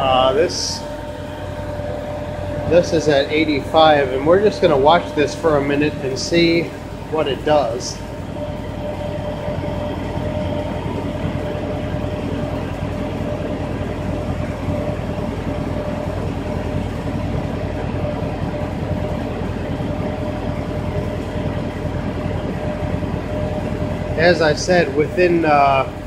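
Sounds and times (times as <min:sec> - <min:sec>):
car engine running: 0:00.0 - 0:26.0
central vacuum drone: 0:00.0 - 0:26.0.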